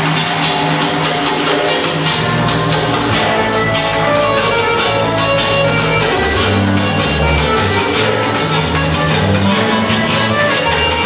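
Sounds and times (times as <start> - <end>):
folk dance music: 0.0 - 11.0
low bass: 0.0 - 11.0
steady drum beat: 0.0 - 11.0.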